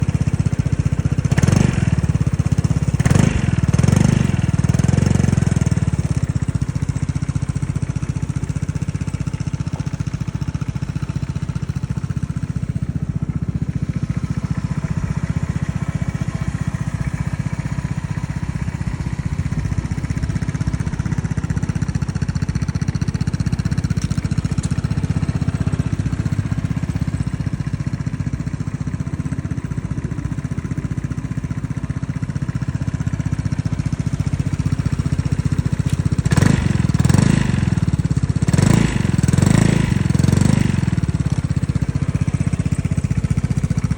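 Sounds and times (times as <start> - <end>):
scooter engine revving and idling: 0.0 - 43.9.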